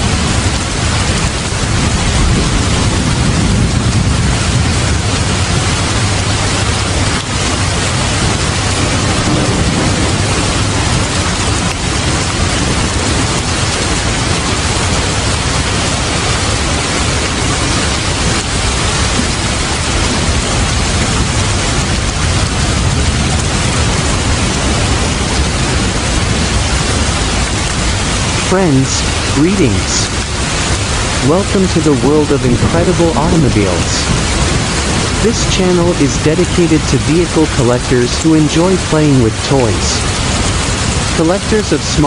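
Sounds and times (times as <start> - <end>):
heavy rain: 0.0 - 42.0
low rumble: 0.0 - 42.0.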